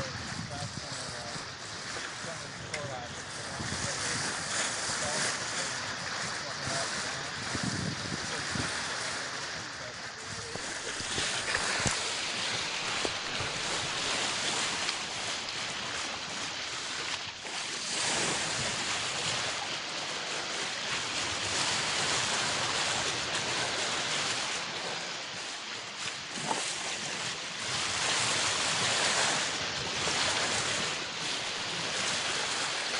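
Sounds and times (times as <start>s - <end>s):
water rushing along a hull: 0.0s - 32.9s
wind on microphone: 0.0s - 32.9s.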